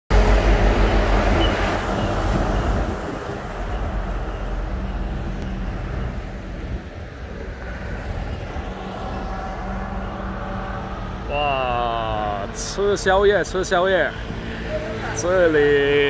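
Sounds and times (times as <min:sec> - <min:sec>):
street traffic noise: 0:00.1 - 0:16.0
truck driving past: 0:00.1 - 0:16.0.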